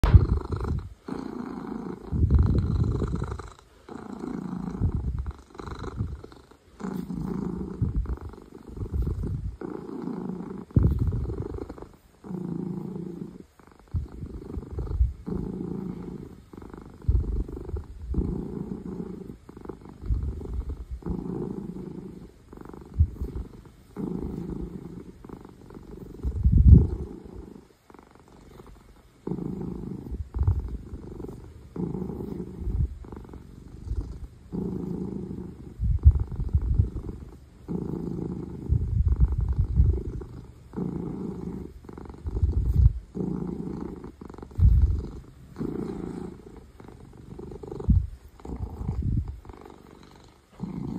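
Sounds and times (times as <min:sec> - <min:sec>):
cat purring loudly: 0:00.0 - 0:50.9.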